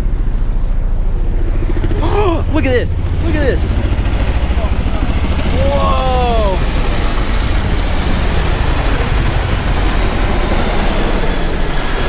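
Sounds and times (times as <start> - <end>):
helicopter rotor beat: 0.0 - 12.0.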